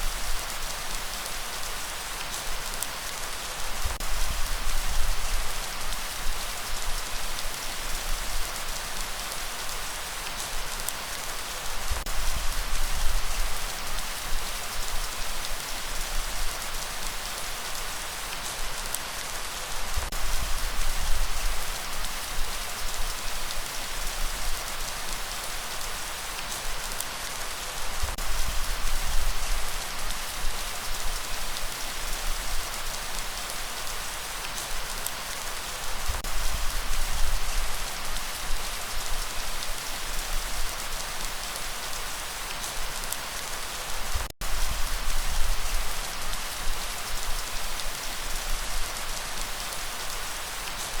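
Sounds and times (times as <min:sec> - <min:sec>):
rain falling: 0:00.0 - 0:51.0.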